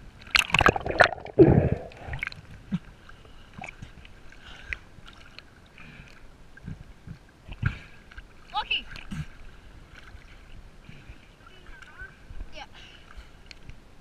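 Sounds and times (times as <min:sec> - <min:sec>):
water sloshing and splashing: 0:00.0 - 0:13.8.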